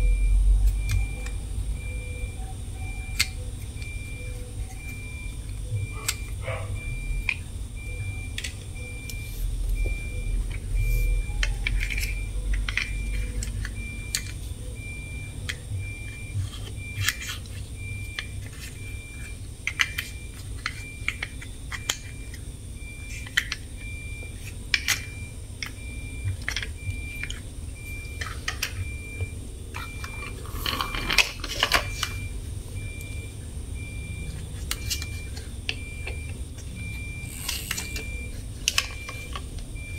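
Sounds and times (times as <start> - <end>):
electronic beeping: 0.0 - 39.9.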